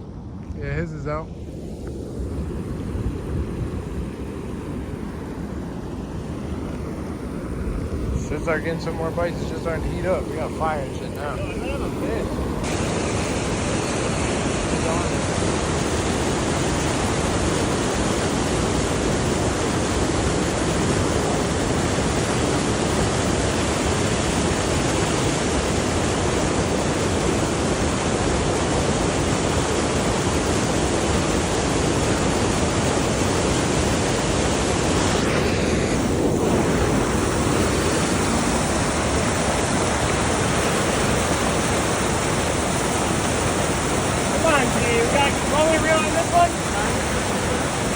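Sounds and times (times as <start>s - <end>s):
river rapids rushing: 1.5s - 47.9s.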